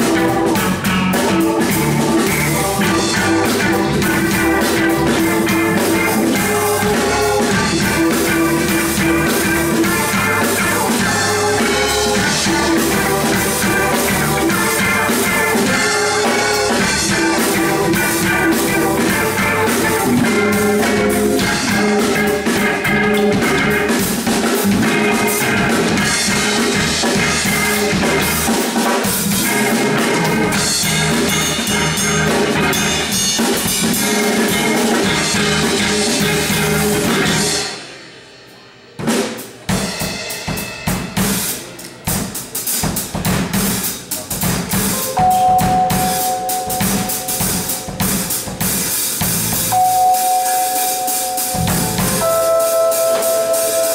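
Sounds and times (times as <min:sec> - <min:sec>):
electric bass: 0:00.0 - 0:37.7, 0:44.5 - 0:53.9
electric guitar: 0:00.0 - 0:37.8, 0:44.8 - 0:53.9
keyboard: 0:00.0 - 0:38.7, 0:39.7 - 0:53.9
drum kit: 0:00.0 - 0:53.9.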